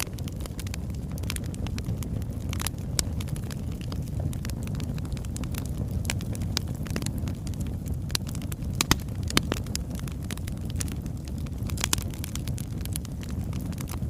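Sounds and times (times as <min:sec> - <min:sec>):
fire pops: 0:00.0 - 0:14.0
wood fire crackling: 0:00.0 - 0:14.0.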